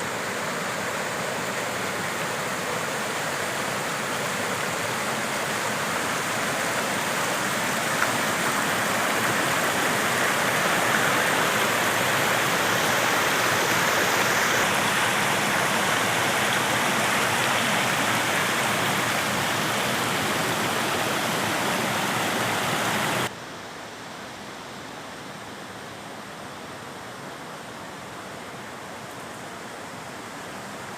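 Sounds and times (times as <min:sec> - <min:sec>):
rushing water: 0:00.0 - 0:23.4, 0:24.4 - 0:30.9.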